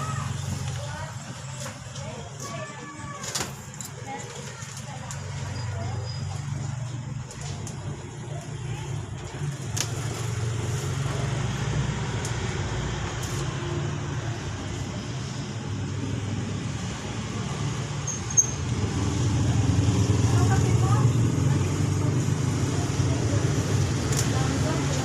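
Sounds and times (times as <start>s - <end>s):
motor vehicle rumbling: 0.0s - 25.0s.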